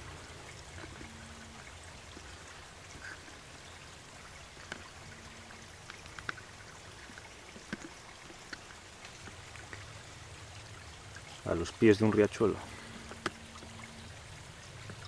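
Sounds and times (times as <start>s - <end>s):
stream trickling: 0.0s - 15.0s.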